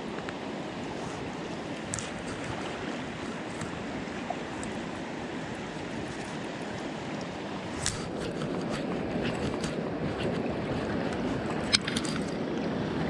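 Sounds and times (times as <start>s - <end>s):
river running over stones: 0.0s - 13.0s.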